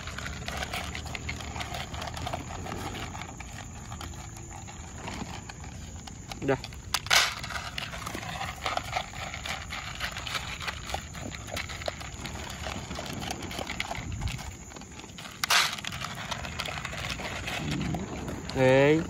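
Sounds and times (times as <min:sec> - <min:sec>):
dogs crunching kibble: 0:00.0 - 0:19.0.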